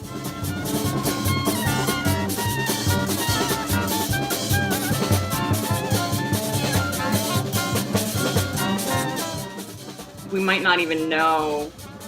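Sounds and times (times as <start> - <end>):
drums keeping a steady beat: 0.0 - 12.0
live street band music: 0.0 - 12.0.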